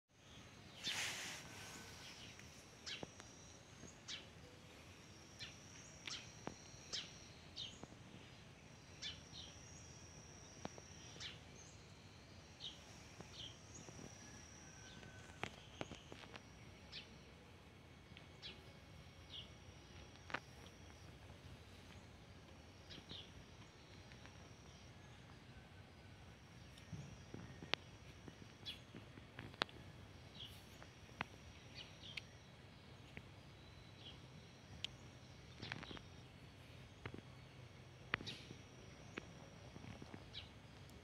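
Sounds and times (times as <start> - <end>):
bird chirps: 0.2 - 17.3, 18.1 - 25.7, 26.6 - 40.8.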